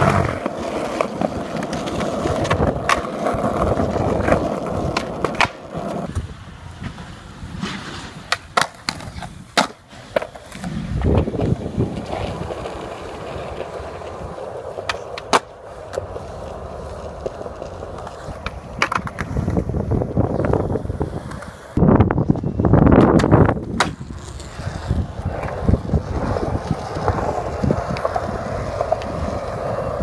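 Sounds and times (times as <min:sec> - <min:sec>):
skateboard clacking on ground: 0:00.0 - 0:30.0
skateboard wheels rolling on concrete: 0:00.0 - 0:30.0.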